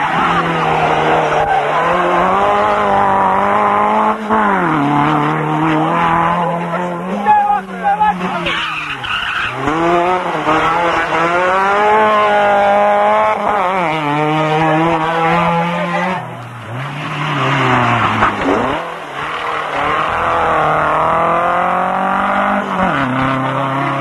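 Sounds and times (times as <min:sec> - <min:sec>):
rally car engines passing: 0:00.0 - 0:24.0.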